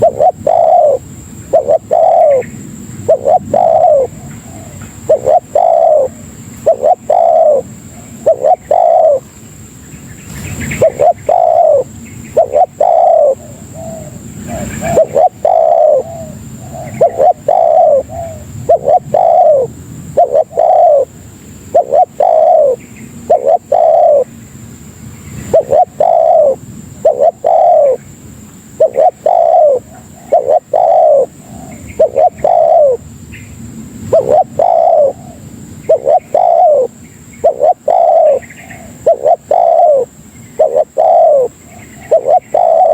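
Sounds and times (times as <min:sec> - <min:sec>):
dove cooing: 0:00.0 - 0:09.3, 0:10.3 - 0:24.4, 0:25.4 - 0:33.1, 0:34.0 - 0:42.9.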